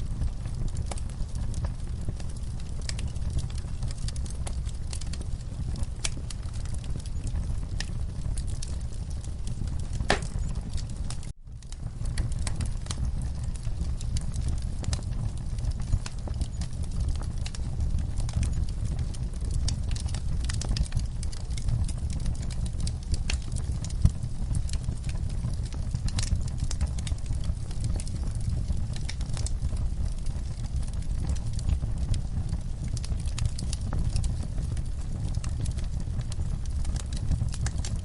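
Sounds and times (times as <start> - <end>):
low steady rumble: 0.0 - 38.0
wood fire crackling: 0.0 - 38.0.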